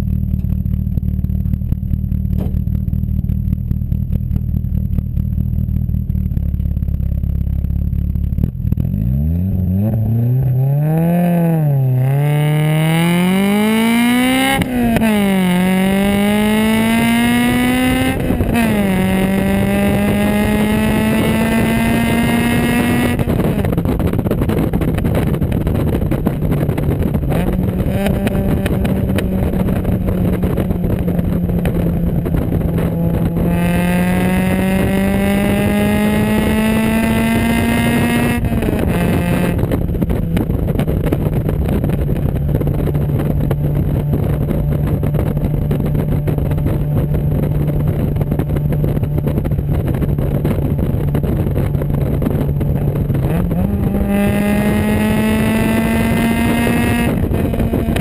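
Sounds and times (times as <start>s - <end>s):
wind buffeting microphone: 0.0s - 58.0s
car engine revving: 6.4s - 58.0s.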